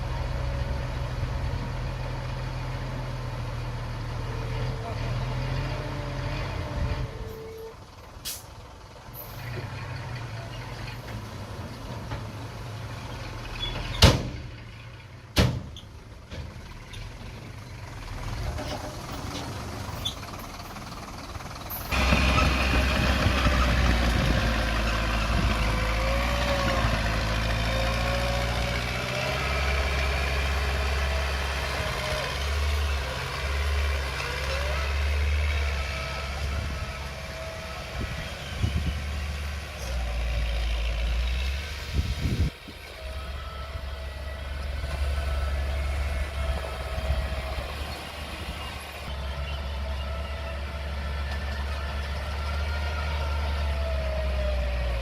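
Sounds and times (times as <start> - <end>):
earthmoving machine diesel engine: 0.0 - 55.0.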